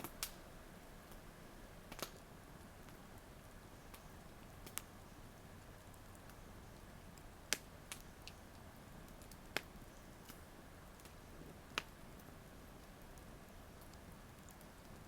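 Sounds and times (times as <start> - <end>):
sharp pops of burning wood: 0.0 - 0.4, 1.8 - 3.2, 3.9 - 5.0, 5.6 - 15.0
campfire wood crackling: 0.0 - 15.0
faint steady hiss: 0.0 - 15.0.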